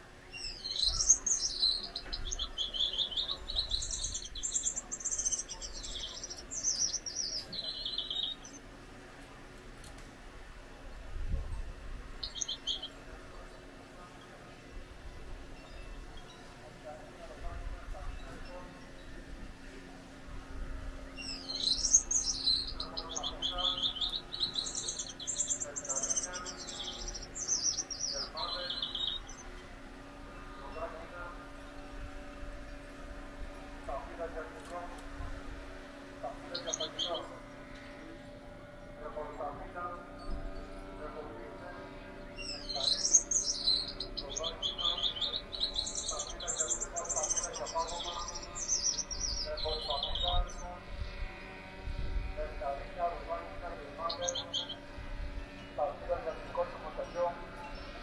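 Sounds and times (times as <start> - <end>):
finch singing buzzy notes: 0.0 - 58.0.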